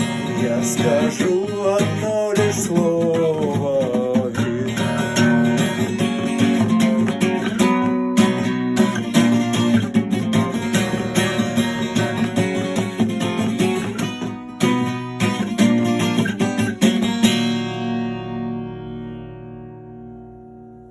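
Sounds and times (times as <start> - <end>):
acoustic guitar strumming chords: 0.0 - 20.9.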